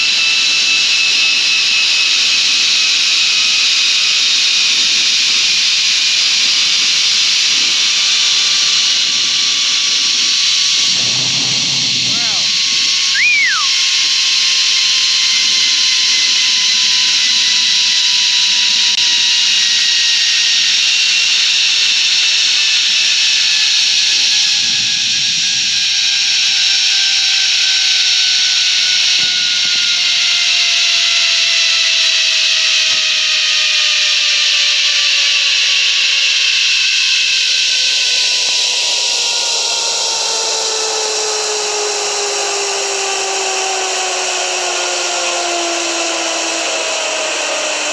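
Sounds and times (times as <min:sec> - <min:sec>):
zipline pulleys hissing and whining: 0:00.0 - 0:47.9.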